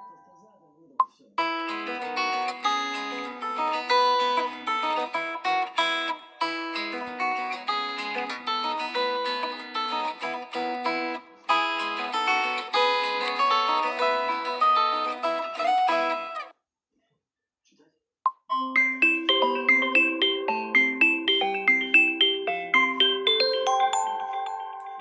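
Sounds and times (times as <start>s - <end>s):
plucked guitar ringtone melody: 0.0s - 0.4s, 1.5s - 16.5s, 18.3s - 25.0s.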